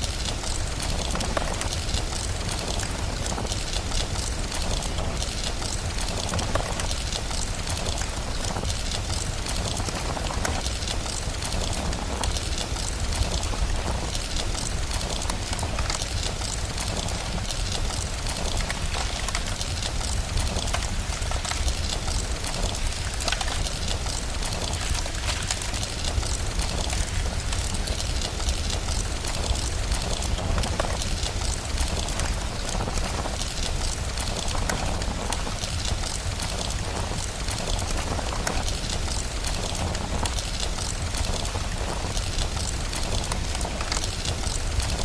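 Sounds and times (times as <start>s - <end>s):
fire crackling: 0.0s - 45.0s
steady rain: 0.0s - 45.0s.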